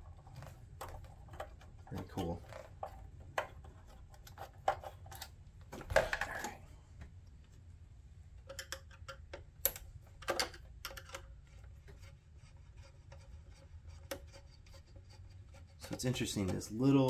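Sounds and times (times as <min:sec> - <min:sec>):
plastic parts clicking and rattling: 0:00.0 - 0:06.6, 0:08.4 - 0:12.1, 0:13.0 - 0:17.0.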